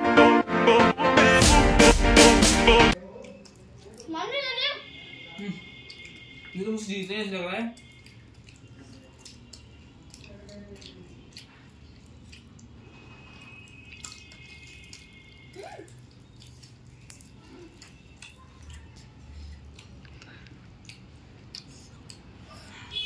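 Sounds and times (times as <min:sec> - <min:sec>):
people chewing food: 0:02.9 - 0:23.0.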